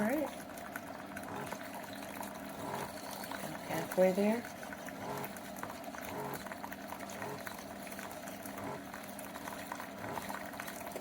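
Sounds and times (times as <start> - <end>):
coffee bubbling and gurgling: 0.0 - 11.0
coffee maker pump humming: 0.0 - 11.0.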